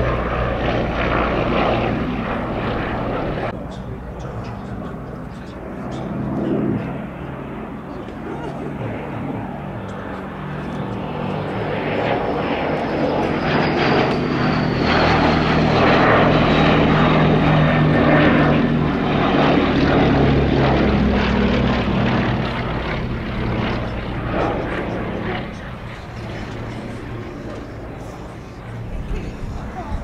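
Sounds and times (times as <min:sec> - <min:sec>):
propeller aircraft flying past: 0:00.0 - 0:30.0.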